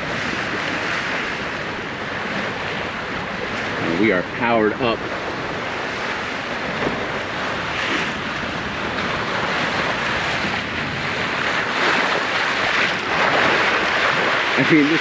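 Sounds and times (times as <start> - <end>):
bow wave rushing along hull: 0.0 - 15.0
wind noise on microphone: 0.0 - 15.0.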